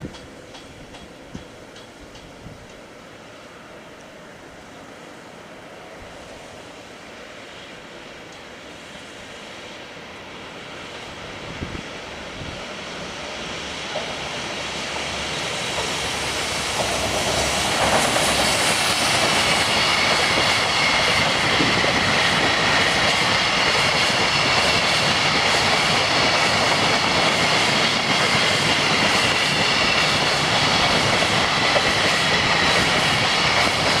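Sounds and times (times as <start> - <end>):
freight train passing: 0.0 - 34.0.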